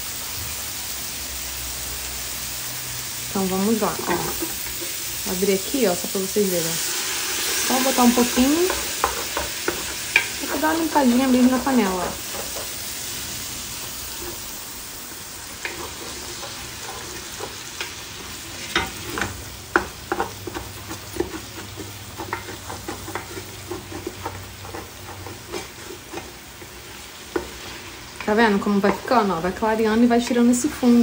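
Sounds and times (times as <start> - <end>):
meat and onion sizzling in pan: 0.0 - 31.0
wooden spoon scraping a pan: 3.6 - 6.2, 6.8 - 14.6, 15.5 - 31.0.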